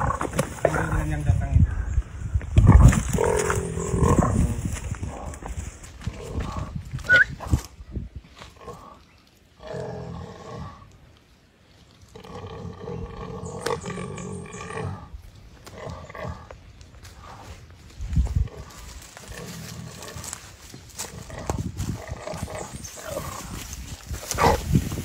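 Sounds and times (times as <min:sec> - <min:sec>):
scuffling in wet mud: 0:02.6 - 0:12.8, 0:14.7 - 0:25.0.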